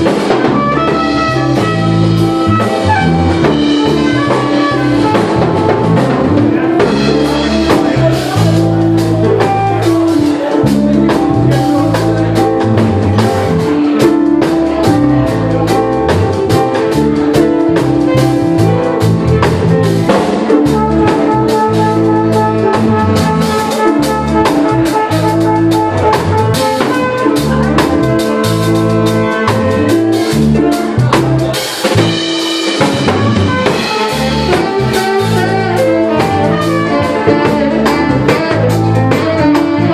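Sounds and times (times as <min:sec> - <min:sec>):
bass line: 0:00.0 - 0:39.9
drum kit: 0:00.0 - 0:39.9
sustained melodic instruments: 0:00.0 - 0:39.9.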